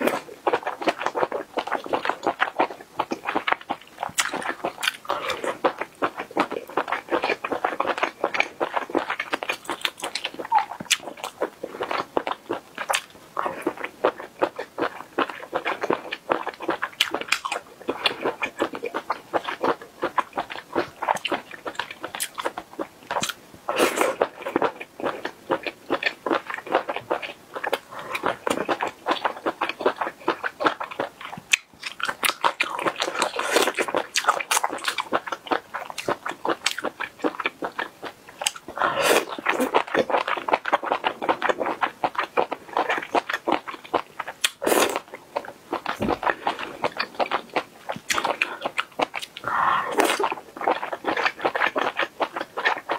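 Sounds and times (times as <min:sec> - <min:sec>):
person chewing wetly: 0:00.0 - 0:52.9.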